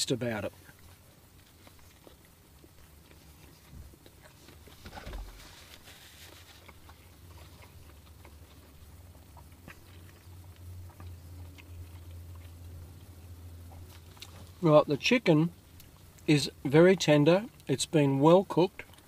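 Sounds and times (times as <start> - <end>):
low steady hum: 0.0 - 19.0
man chewing food: 0.4 - 14.6, 15.5 - 17.7, 18.7 - 19.0.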